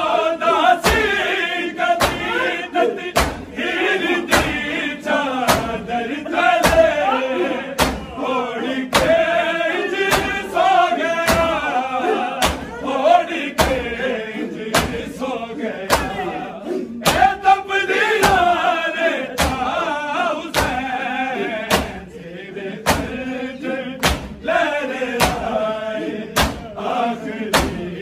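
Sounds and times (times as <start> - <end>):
men chanting in unison: 0.0 - 28.0
sharp rhythmic beat: 0.0 - 28.0.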